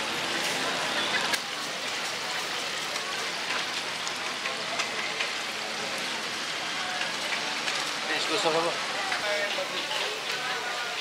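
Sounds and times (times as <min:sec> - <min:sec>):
hot oil sizzling in a deep fryer: 0:00.0 - 0:11.0.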